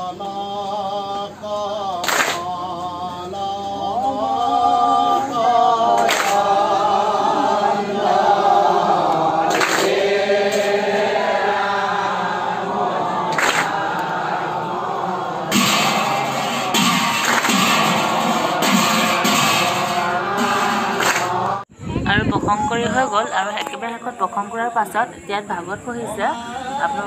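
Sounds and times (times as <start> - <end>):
congregation chanting in unison: 0.0 - 21.7, 22.7 - 27.0.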